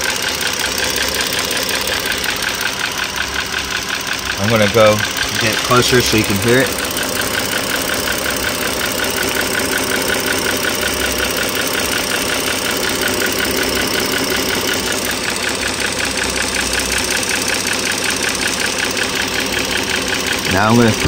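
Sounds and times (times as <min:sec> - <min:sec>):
car engine idling: 0:00.0 - 0:21.0
fast even engine tapping: 0:00.0 - 0:21.0.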